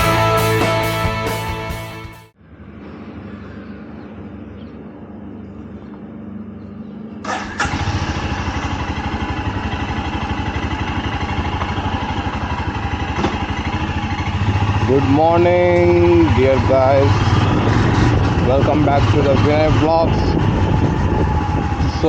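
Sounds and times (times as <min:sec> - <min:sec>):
motorcycle engine idling: 0:02.4 - 0:22.0.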